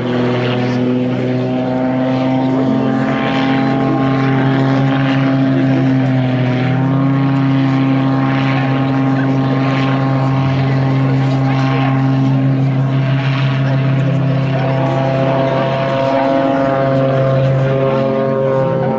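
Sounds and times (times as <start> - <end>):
plane engine and propeller: 0.0 - 18.9.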